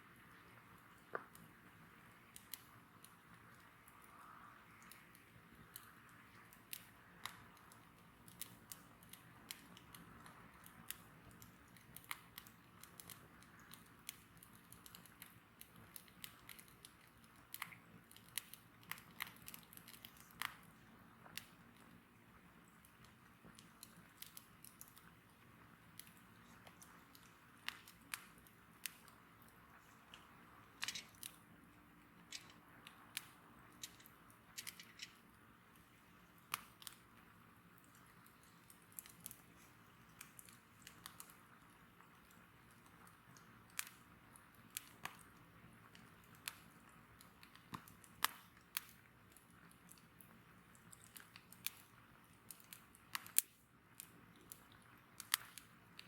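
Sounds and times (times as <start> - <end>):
faint hiss: 0.0 - 49.3
bonfire crackling and popping: 0.0 - 56.0.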